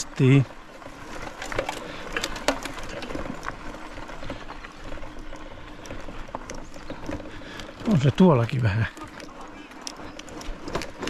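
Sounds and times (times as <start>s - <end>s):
crunching on rough track: 0.0s - 11.0s
small motorbike motor hum: 0.0s - 11.0s.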